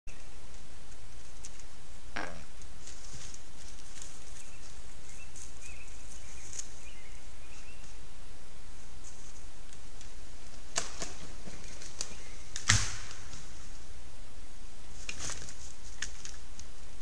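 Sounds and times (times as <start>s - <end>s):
low hum and hiss: 0.1s - 17.0s.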